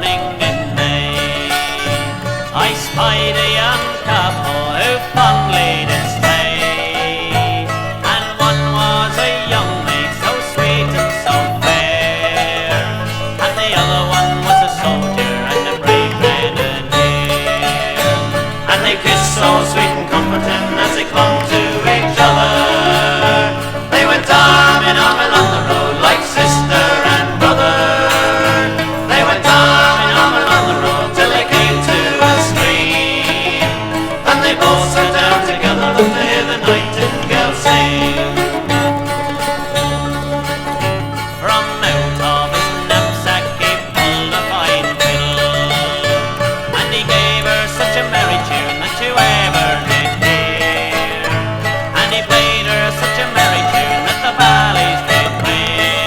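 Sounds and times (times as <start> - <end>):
bluegrass band playing: 0.0 - 56.0
plucked string instruments: 0.0 - 56.0
quick banjo picking: 0.0 - 56.0.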